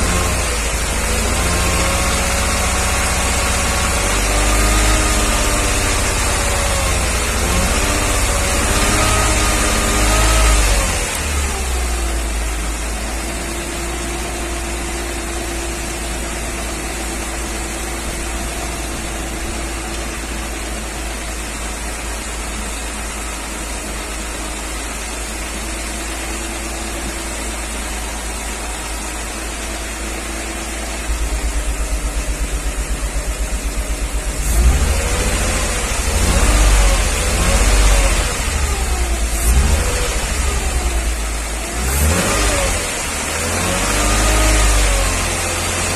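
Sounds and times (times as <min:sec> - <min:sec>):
car engine running: 0:00.0 - 0:45.9.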